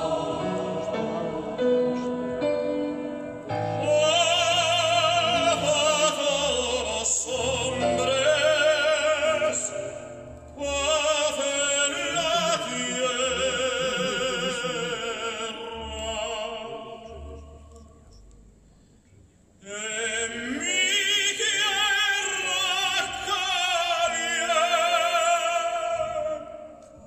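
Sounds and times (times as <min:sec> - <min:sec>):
operatic singing with vibrato: 0:00.0 - 0:18.0, 0:19.6 - 0:27.0.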